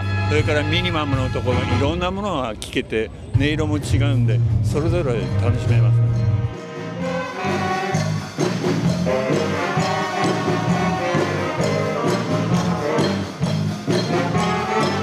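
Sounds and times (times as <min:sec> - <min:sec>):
jazz band playing: 0:00.0 - 0:02.2, 0:03.4 - 0:15.0
saxophones: 0:00.0 - 0:02.2, 0:04.8 - 0:15.0.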